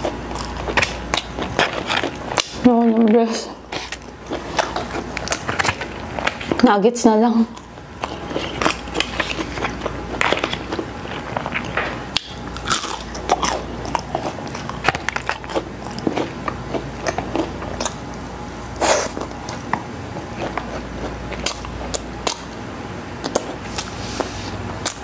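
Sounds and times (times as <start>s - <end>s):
crunchy chewing: 0.0s - 6.7s, 7.4s - 25.0s.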